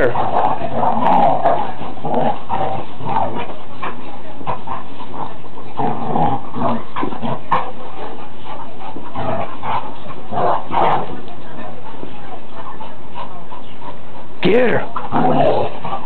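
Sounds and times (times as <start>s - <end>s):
dogs growling and whining: 0.0s - 13.0s, 14.8s - 16.0s
dogs scuffling: 0.0s - 16.0s.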